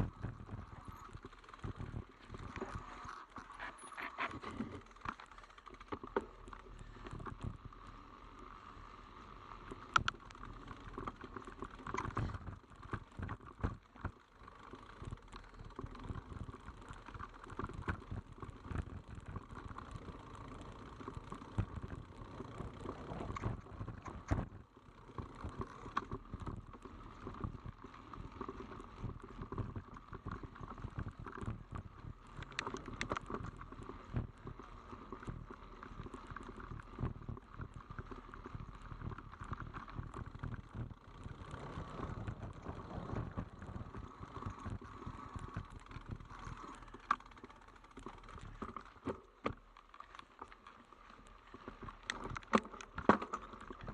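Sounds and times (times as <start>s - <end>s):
bike rattling and knocking: 0.0s - 7.8s, 9.7s - 53.9s
bike wheels whirring: 0.0s - 49.0s.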